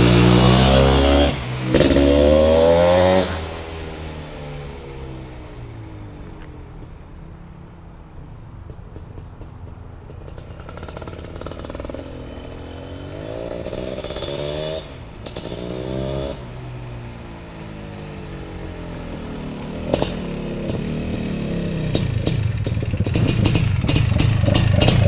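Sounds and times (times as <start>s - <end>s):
motorcycle engine revving: 0.0s - 6.2s, 8.5s - 25.0s.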